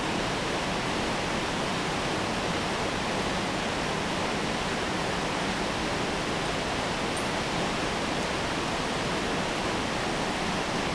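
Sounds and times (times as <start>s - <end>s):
mountain torrent rushing: 0.0s - 10.9s.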